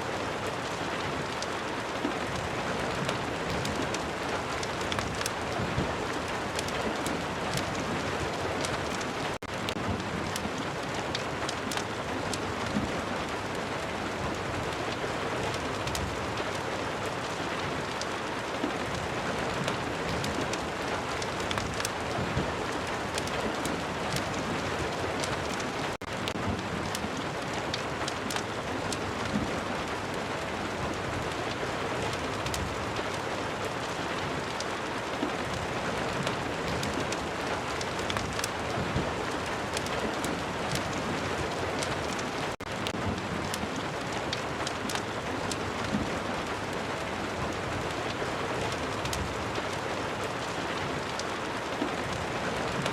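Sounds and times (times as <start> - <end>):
steady rain: 0.0 - 52.9
fireplace crackling: 0.5 - 14.3, 15.5 - 52.9.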